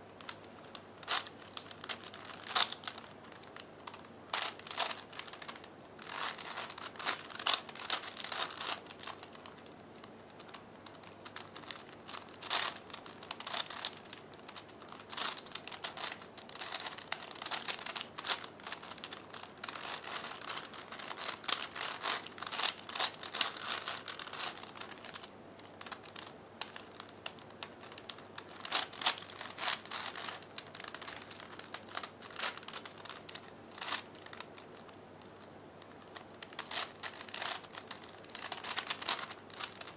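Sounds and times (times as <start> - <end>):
plastic puzzle cube clicking: 0.2 - 9.7, 10.3 - 25.2, 25.8 - 39.9.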